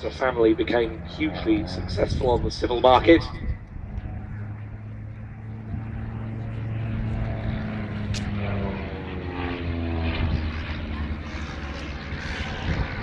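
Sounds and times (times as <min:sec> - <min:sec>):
aircraft engine passing by: 0:00.0 - 0:13.0
propeller aircraft flying low: 0:00.0 - 0:13.0.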